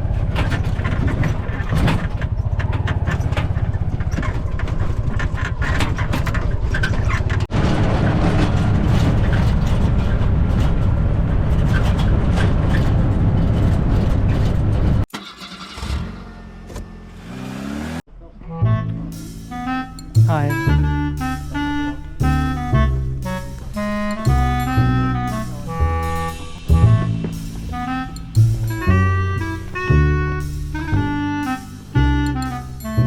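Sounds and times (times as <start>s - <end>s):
rattling and buffeting: 0.0s - 15.1s, 18.2s - 33.0s
vehicle engine rumbling: 0.0s - 33.0s.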